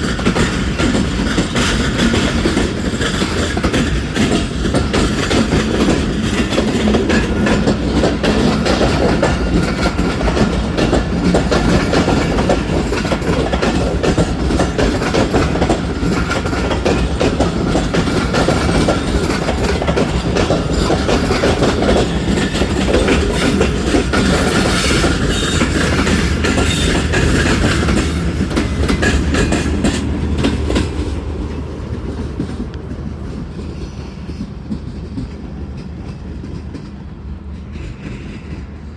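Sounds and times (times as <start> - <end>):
train low rumble: 0.0 - 38.9
train wheels clattering over rail joints: 0.0 - 38.9.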